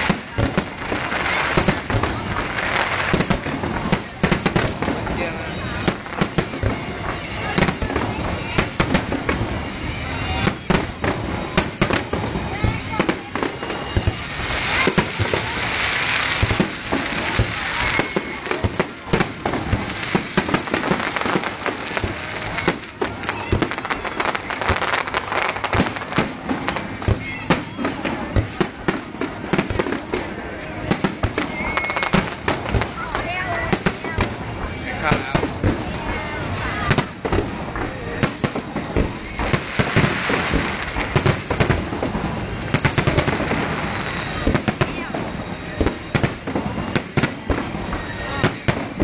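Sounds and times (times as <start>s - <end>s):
continuous rushing noise: 0.0s - 49.0s
fireworks crackling and banging: 0.0s - 49.0s.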